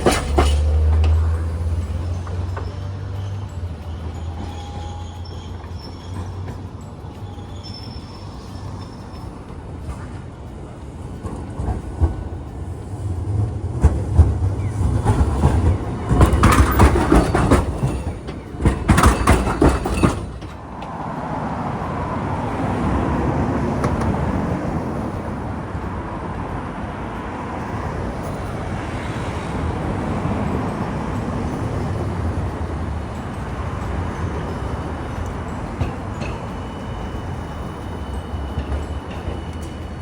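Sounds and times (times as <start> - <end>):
streetcar wheels clattering: 0.0 - 40.0.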